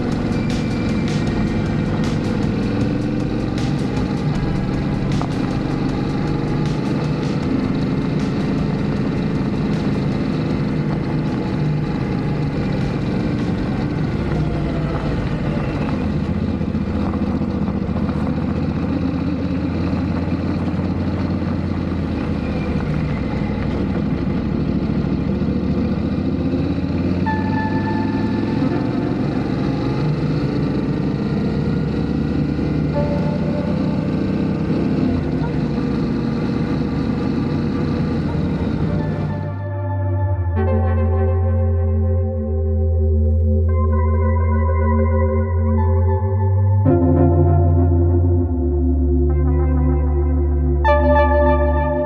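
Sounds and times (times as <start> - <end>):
motorcycle engine running: 0.0 - 44.6.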